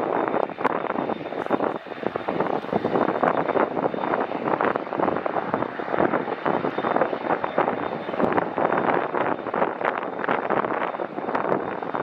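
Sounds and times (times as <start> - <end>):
helicopter turbine whine and roar: 0.0 - 12.0
wind buffeting microphone: 0.0 - 12.0.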